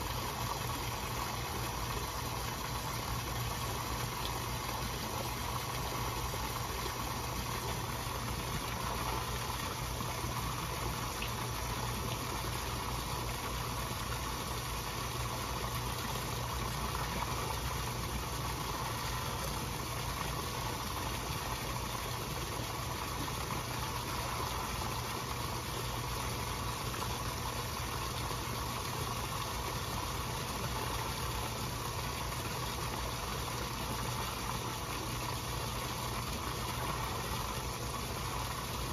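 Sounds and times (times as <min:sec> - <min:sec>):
low steady hum: 0:00.0 - 0:38.9
pond water splashing: 0:00.0 - 0:38.9.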